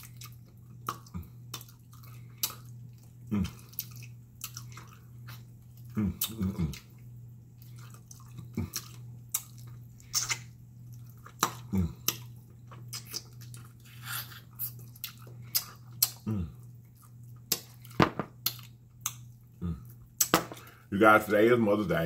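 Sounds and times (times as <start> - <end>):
wet chewing and lip-smacking: 0.0 - 20.7
steady low hum: 0.0 - 22.0.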